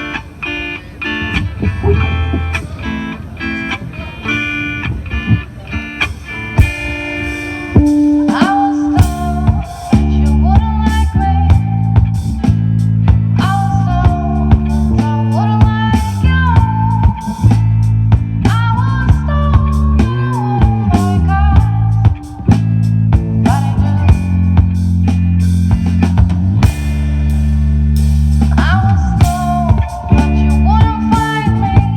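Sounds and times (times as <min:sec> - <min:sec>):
bass guitar: 0:00.0 - 0:31.9
drums: 0:00.0 - 0:31.9
electric guitar: 0:00.0 - 0:31.9
lead melody with bending notes: 0:00.0 - 0:31.9.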